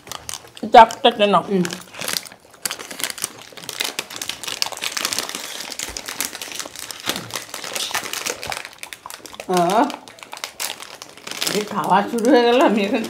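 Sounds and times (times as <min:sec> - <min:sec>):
wrappers crinkling: 0:00.0 - 0:13.0.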